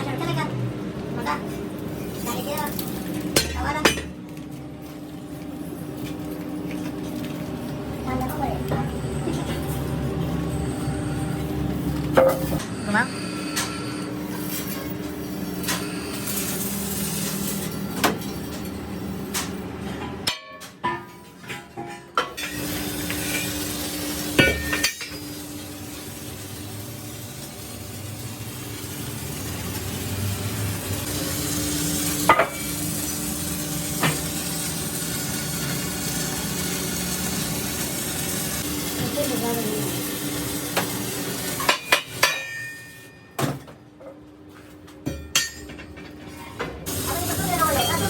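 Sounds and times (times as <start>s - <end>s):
steady machine hum: 0.0s - 43.3s.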